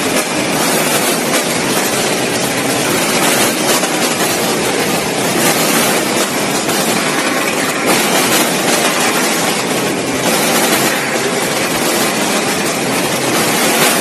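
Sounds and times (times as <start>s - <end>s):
clatter from metal hoppers: 0.0s - 14.0s
packing machine mechanical din: 0.0s - 14.0s.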